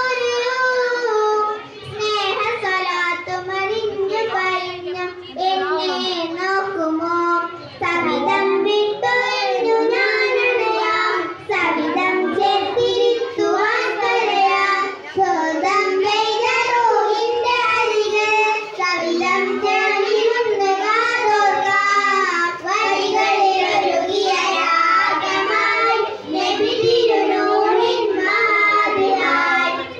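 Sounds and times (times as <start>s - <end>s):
child singing: 0.0s - 29.9s.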